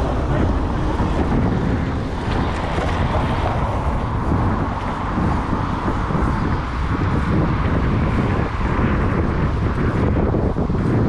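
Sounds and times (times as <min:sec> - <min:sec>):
bicycle tyre and road noise: 0:00.0 - 0:11.0
wind rushing over microphone: 0:00.0 - 0:11.0.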